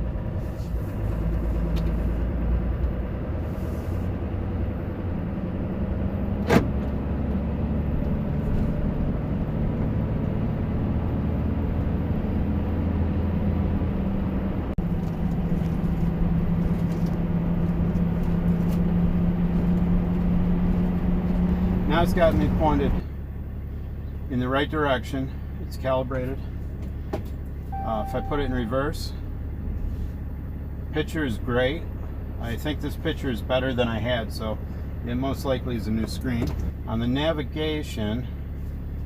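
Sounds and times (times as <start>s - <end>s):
engine and road noise in cab: 0.0s - 39.0s.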